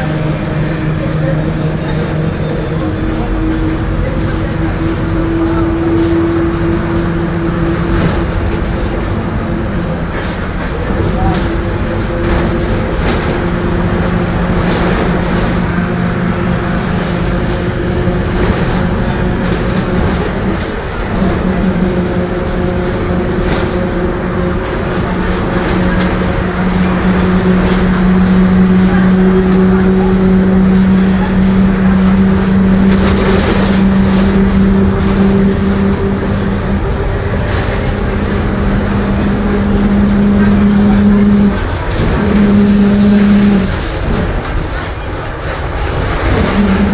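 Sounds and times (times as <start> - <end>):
bus differential whine: 0.0 - 46.9.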